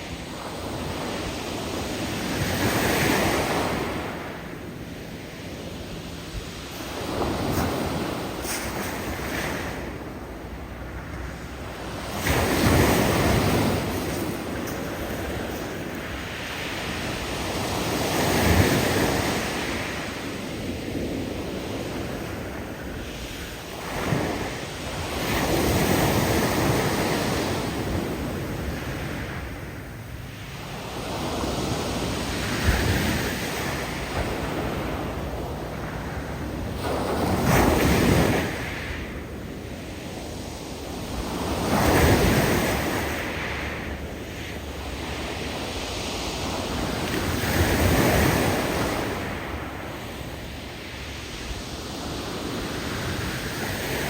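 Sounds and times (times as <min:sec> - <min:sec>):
waves breaking on beach rocks: 0:00.0 - 0:54.0.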